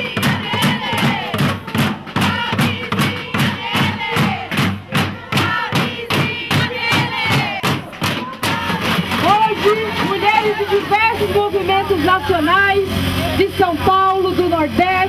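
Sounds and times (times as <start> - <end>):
crowd chanting: 0.0 - 12.5
steady drum beat: 0.0 - 12.6.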